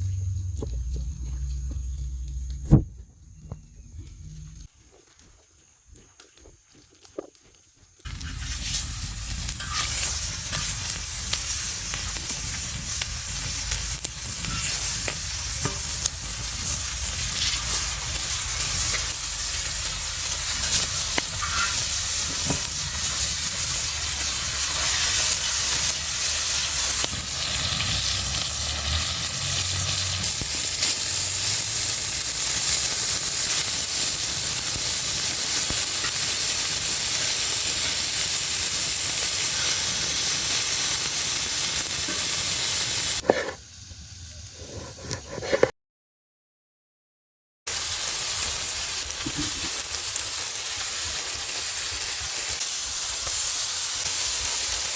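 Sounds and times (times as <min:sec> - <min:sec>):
food sizzling on a griddle: 0:08.0 - 0:45.1, 0:47.7 - 0:54.9.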